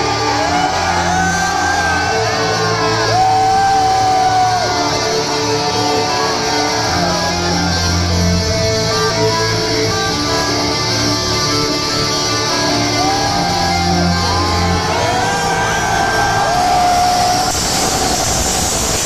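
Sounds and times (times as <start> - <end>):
electric guitars: 0.0 - 19.0.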